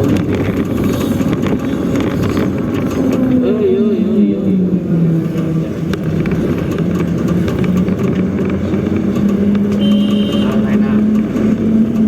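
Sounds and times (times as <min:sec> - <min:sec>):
road rumble: 0:00.0 - 0:12.0
truck engine humming: 0:00.0 - 0:12.0.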